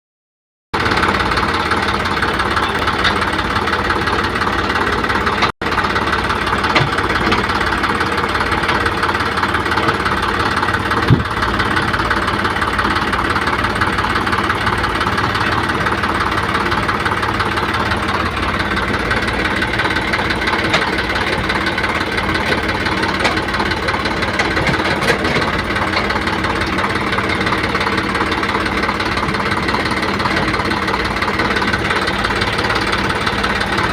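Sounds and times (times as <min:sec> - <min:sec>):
excavator diesel engine running: 0:00.8 - 0:33.9.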